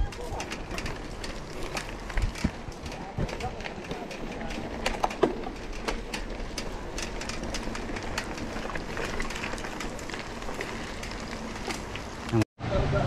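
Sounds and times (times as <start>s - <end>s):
bike rattling and clicking: 0.0s - 12.4s.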